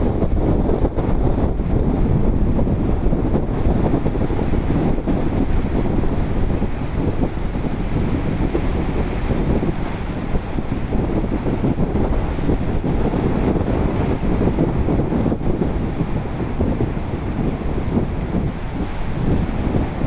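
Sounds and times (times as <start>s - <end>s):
ocean surf washing: 0.0s - 20.0s
wind buffeting microphone: 0.0s - 20.0s.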